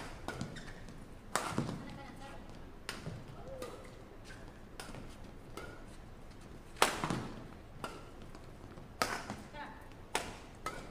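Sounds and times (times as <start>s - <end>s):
rackets hitting shuttlecock: 0.0s - 10.9s.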